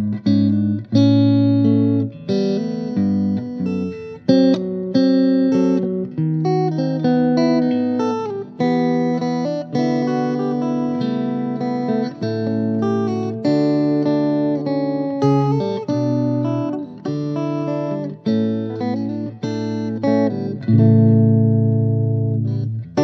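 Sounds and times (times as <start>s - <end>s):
electric guitar chords strummed: 0.0s - 23.0s.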